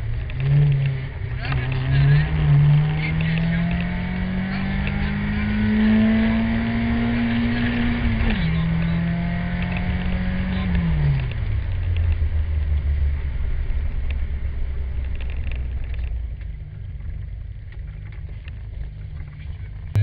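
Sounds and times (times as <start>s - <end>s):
car engine from inside: 0.0s - 20.0s.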